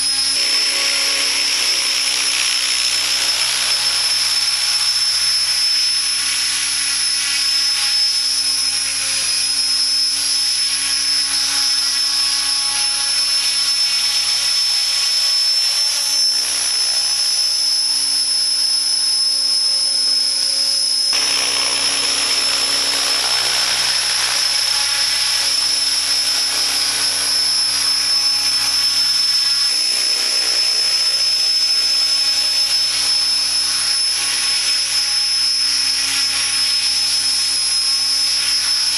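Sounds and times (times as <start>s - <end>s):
helicopter rotor noise: 0.0s - 38.9s
high-pitched motor whine: 0.0s - 38.9s.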